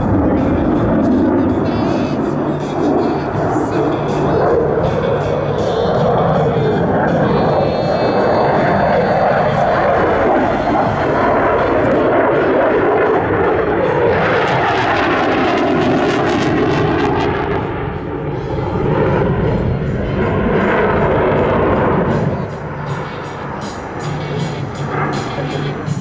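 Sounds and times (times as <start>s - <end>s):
fighter jet flying past: 0.0s - 26.0s.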